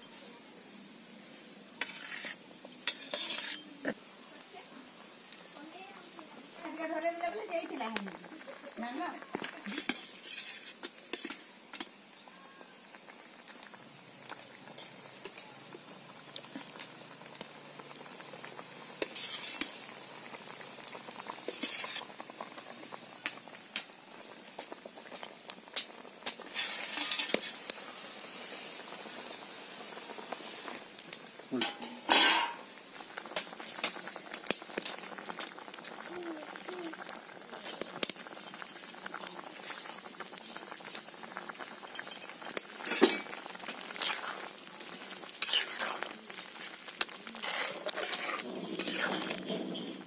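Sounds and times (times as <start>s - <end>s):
curry boiling and sizzling: 0.0s - 50.0s.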